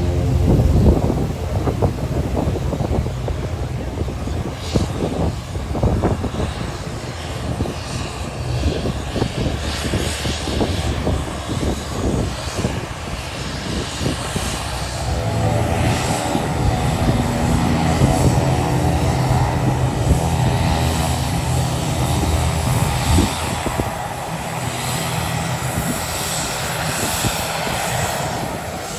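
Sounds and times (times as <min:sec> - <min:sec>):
propeller airplane engine droning: 0:00.0 - 0:28.9
wind buffeting microphone: 0:00.0 - 0:28.9.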